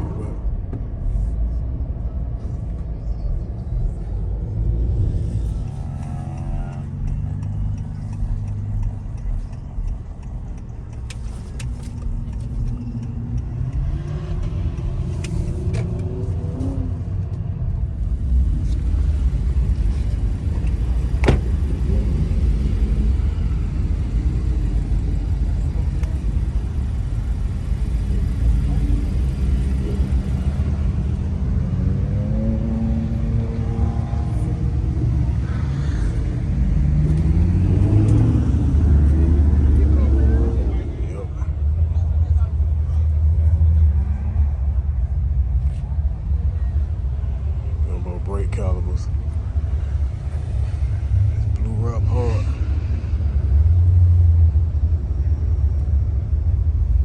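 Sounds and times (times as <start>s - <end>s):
car engine accelerating: 0.0s - 57.0s
road rumble: 0.0s - 57.0s.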